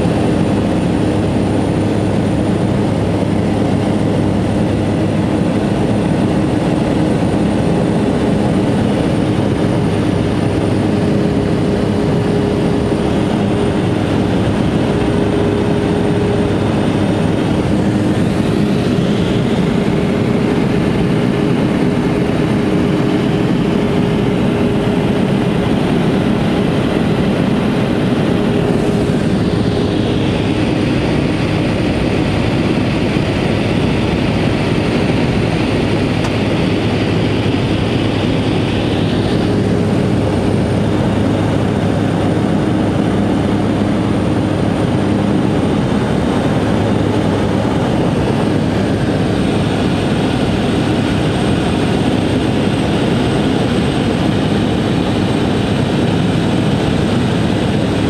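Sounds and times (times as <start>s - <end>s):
plane engine and propeller: 0.0s - 58.0s.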